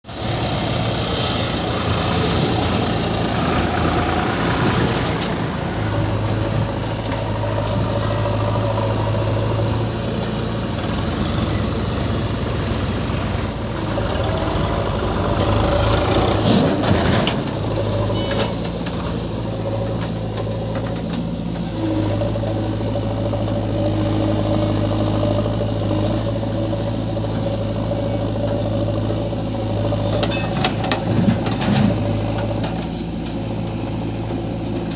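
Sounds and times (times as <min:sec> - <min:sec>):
diesel engines running: 0:00.1 - 0:34.9.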